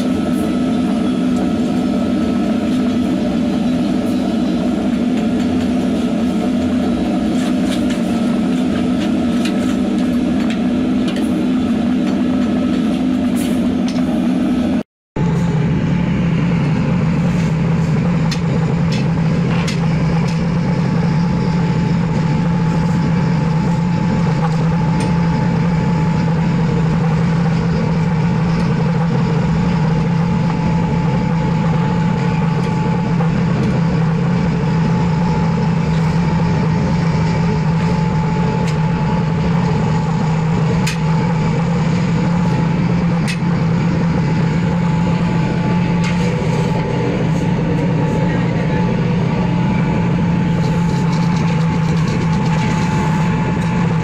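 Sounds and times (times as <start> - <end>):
constant machine hum: 0.0 - 54.0
furnace roaring: 0.0 - 54.0.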